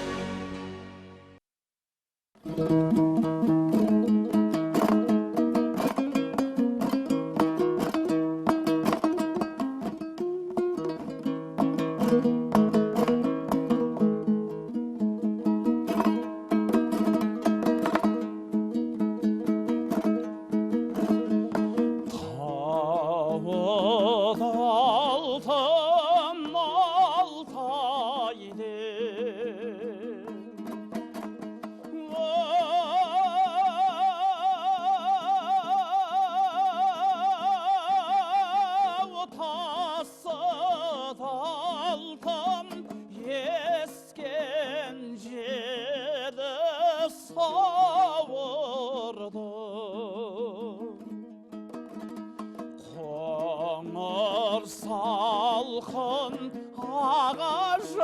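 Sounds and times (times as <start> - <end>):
plucked strings folk music: 0.0 - 1.4, 2.4 - 58.0.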